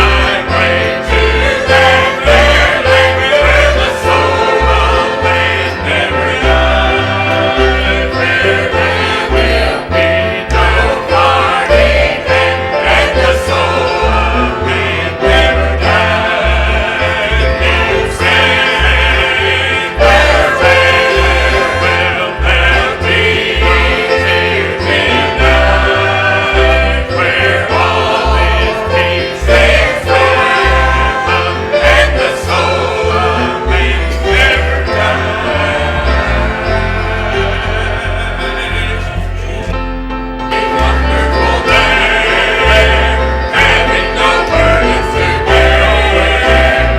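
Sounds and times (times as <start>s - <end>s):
church choir singing: 0.0s - 46.9s
instrumental accompaniment: 0.0s - 46.9s
pulsing bass line: 0.0s - 46.9s.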